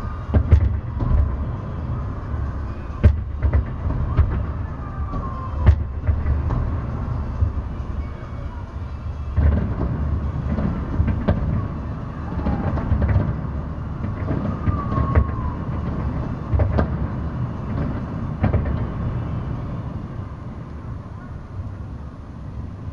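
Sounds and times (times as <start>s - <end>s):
fireworks sharp bangs: 0.0s - 20.2s
fireworks rumble: 0.0s - 22.9s.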